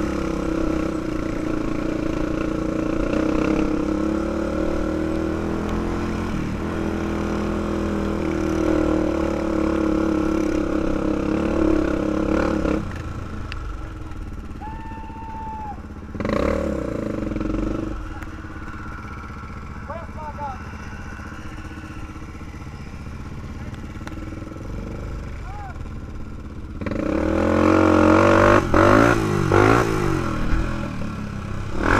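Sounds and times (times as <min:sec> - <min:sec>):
atv engine running: 0:00.0 - 0:31.9.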